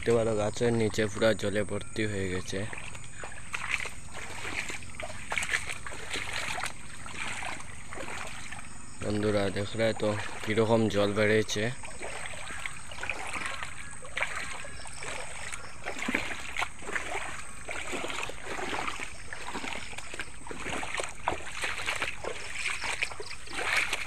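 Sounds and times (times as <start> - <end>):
boots splashing through water: 0.0 - 24.0.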